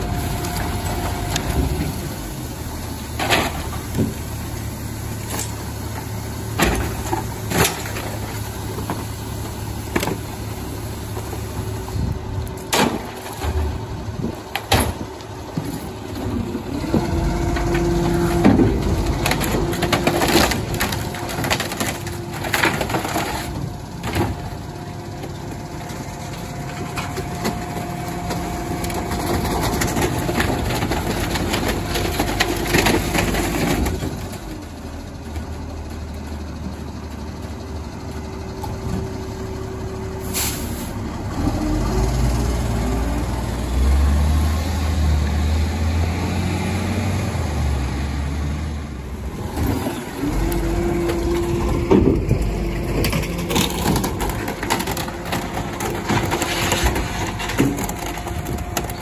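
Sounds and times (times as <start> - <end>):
hydraulics whining: 0.0 - 44.4, 48.9 - 59.0
waste cracking in compactor: 0.0 - 46.1, 49.0 - 59.0
truck engine running: 0.0 - 59.0.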